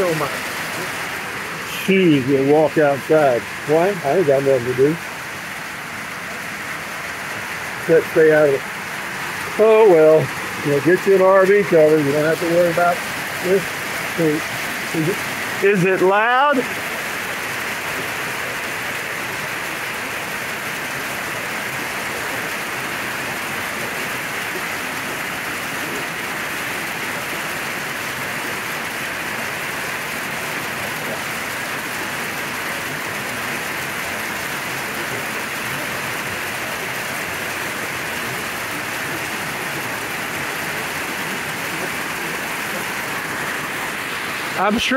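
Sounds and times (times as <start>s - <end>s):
hail and rain on metal roof: 0.0s - 44.9s.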